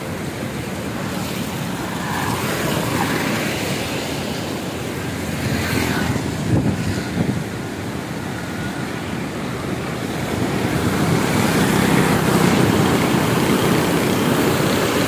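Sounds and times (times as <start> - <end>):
floodwater rushing: 0.0 - 15.0
wind buffeting microphone: 0.8 - 15.0
motorcycle passing: 1.0 - 15.0.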